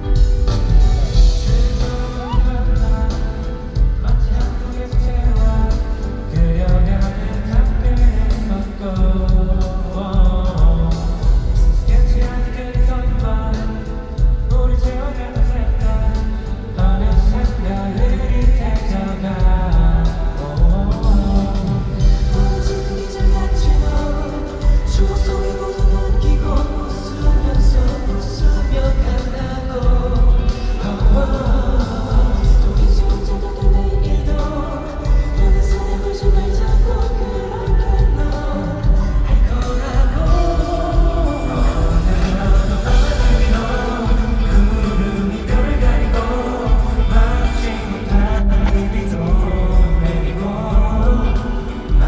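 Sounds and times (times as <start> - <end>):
band playing over pa system: 0.0 - 52.0
heavy pulsing bass: 0.0 - 52.0
men singing pop song: 0.0 - 52.0.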